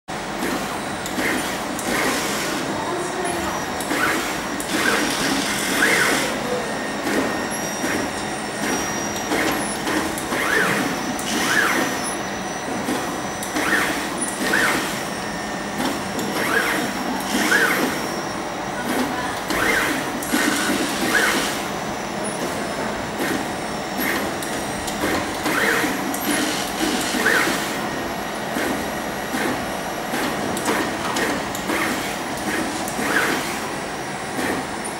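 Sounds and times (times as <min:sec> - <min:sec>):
conveyor belt squeaks: 0:00.3 - 0:34.9.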